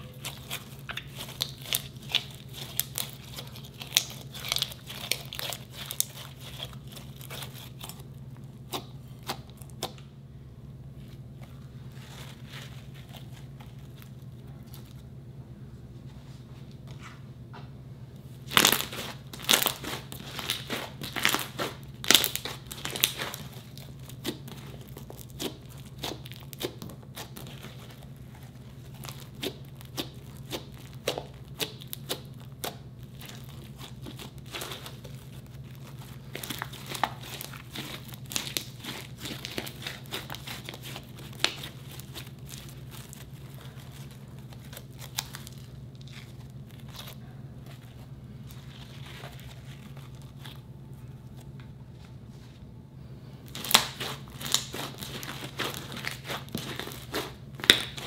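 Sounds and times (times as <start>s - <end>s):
slime squelching and crackling: 0.0s - 10.1s, 10.9s - 15.1s, 18.3s - 51.6s, 53.4s - 58.0s.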